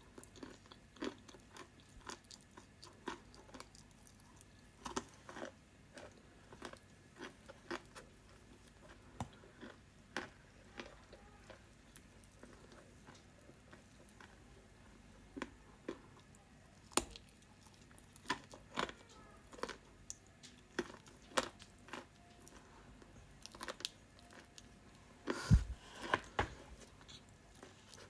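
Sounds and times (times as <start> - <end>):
chewing and crunching clay: 0.0 - 28.0.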